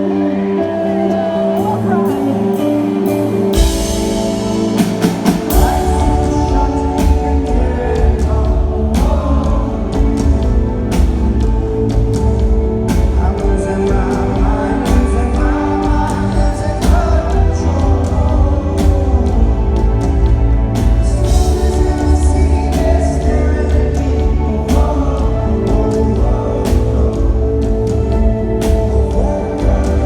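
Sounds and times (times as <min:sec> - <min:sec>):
lead vocal: 0:00.0 - 0:30.0
rock band playing live: 0:00.0 - 0:30.0.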